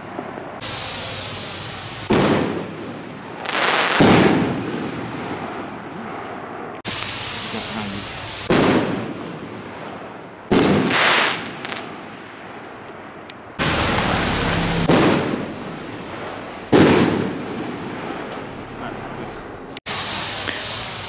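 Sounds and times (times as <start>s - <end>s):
firework rocket bangs: 0.0s - 5.8s, 6.8s - 12.6s, 13.6s - 21.0s
rushing crackling firework noise: 0.0s - 21.0s.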